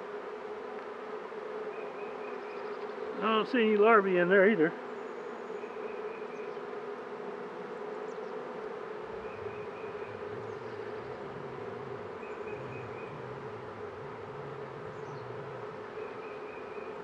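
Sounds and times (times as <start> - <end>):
honeybees buzzing: 0.0 - 17.0
lower buzz: 0.0 - 17.0.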